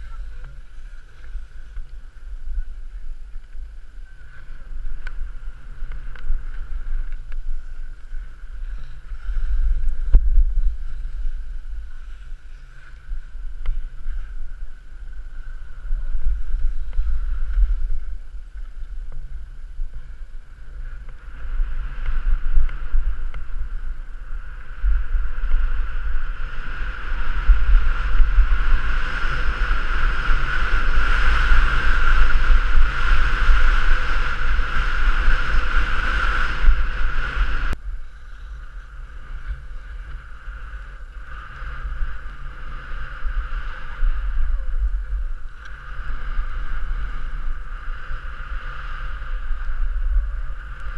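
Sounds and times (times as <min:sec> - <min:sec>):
drone propellers buzzing: 0:00.0 - 0:50.9
wind rumbling on microphone: 0:00.0 - 0:50.9.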